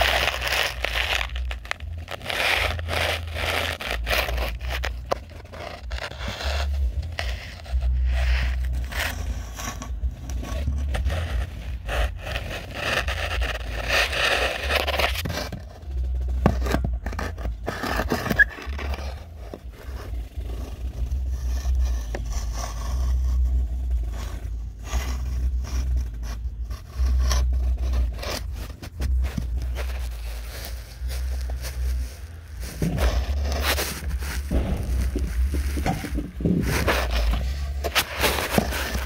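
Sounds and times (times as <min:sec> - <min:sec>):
steady low rumble: 0:00.0 - 0:17.8, 0:19.1 - 0:39.0
camera scraping inside flue: 0:00.0 - 0:39.0.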